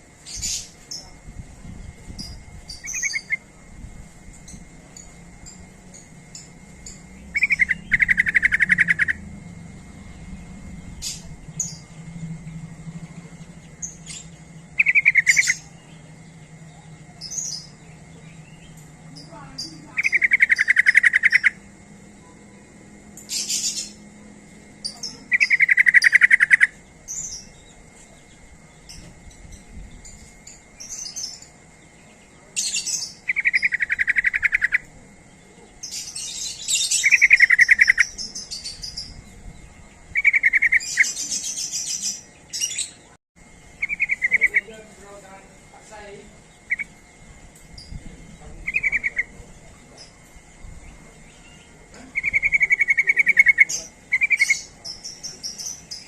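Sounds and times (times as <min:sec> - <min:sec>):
bird chattering calls: 0:02.1 - 0:03.5, 0:04.5 - 0:21.8, 0:23.2 - 0:56.0.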